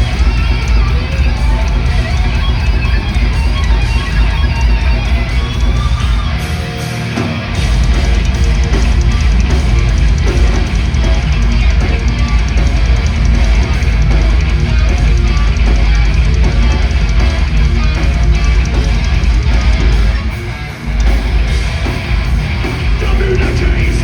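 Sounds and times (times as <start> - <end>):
distorted electric guitar: 0.0 - 24.0
heavy metal band playing live: 0.0 - 24.0.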